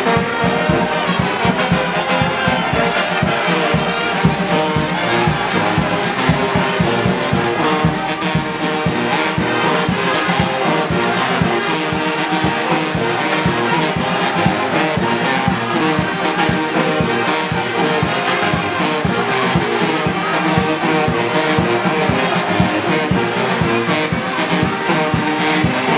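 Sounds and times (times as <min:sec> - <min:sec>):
brass band playing: 0:00.0 - 0:25.9.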